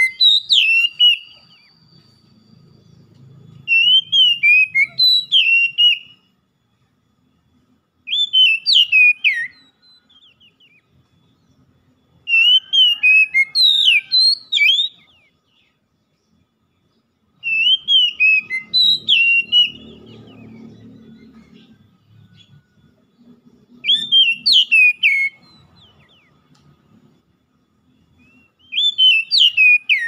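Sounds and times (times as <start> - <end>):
bird singing whistled phrases: 0.0 - 3.0, 3.6 - 6.4, 8.0 - 16.4, 17.3 - 26.4, 27.8 - 30.0.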